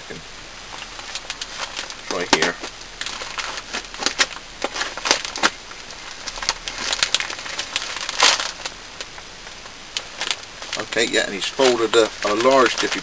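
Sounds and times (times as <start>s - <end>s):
paper crinkling and rustling: 0.7s - 13.0s.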